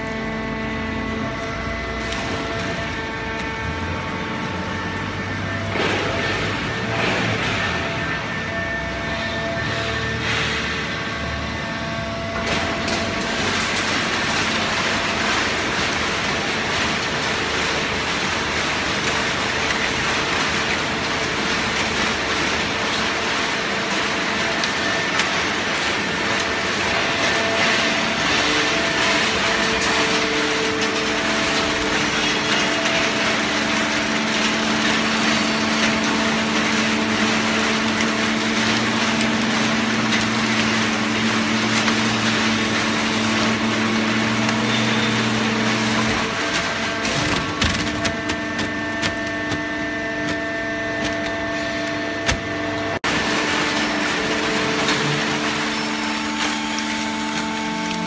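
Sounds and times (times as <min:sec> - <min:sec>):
hydraulic baler running: 0:00.0 - 0:58.0.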